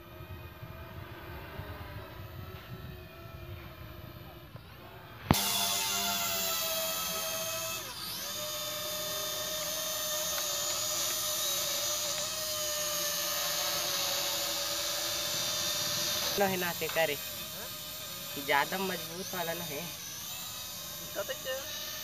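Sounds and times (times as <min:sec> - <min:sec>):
toy drone propellers whining: 0:00.0 - 0:22.0.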